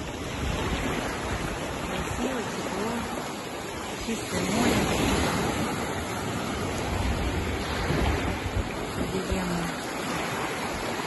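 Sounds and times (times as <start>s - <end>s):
waves washing on shore: 0.0s - 11.0s
wind on microphone: 0.0s - 11.0s.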